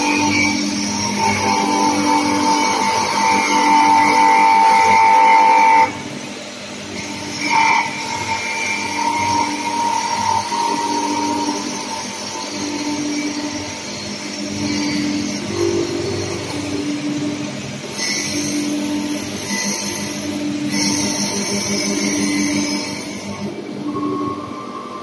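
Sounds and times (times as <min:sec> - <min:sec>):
wood lathe machine whine: 0:00.0 - 0:25.0.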